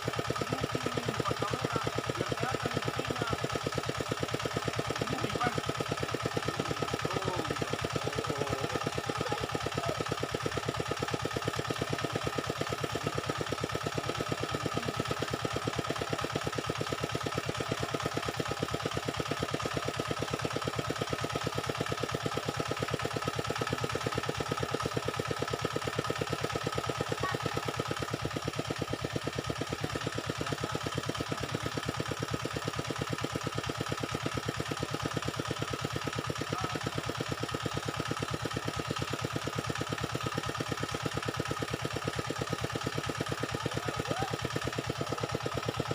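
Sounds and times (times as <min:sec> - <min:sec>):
small engine idling: 0:00.0 - 0:45.9.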